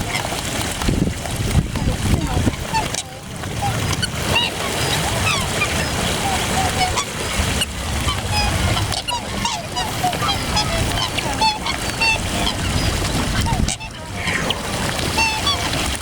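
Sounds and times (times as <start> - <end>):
waterbirds honking and chirping: 0.0 - 16.0.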